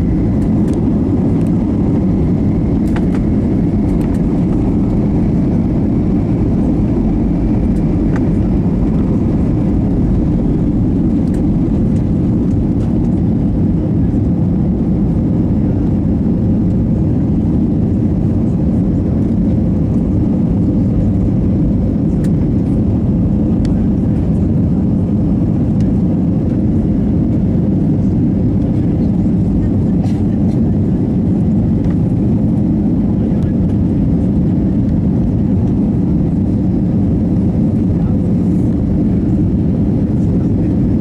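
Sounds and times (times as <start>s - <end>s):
jet engines roaring in cabin: 0.0s - 41.0s.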